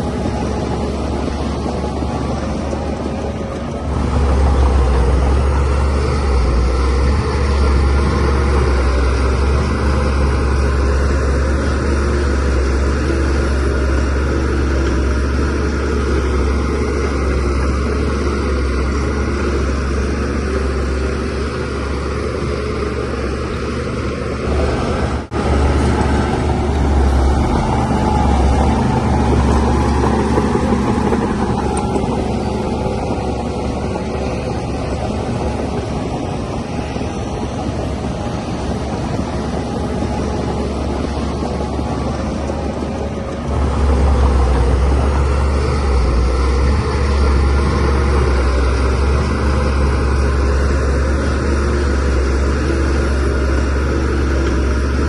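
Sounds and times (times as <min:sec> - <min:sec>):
bulldozer diesel engine drone: 0:00.0 - 0:55.0.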